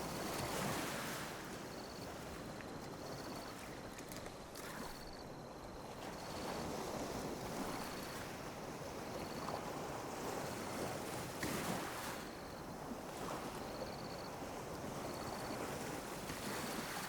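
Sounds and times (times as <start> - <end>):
small waves lapping: 0.0 - 17.0.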